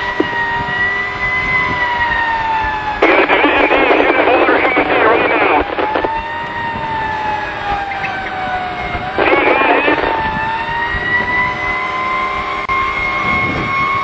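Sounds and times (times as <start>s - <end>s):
fast warbling siren tone: 0.0s - 14.0s
fire truck siren wailing: 0.0s - 14.0s.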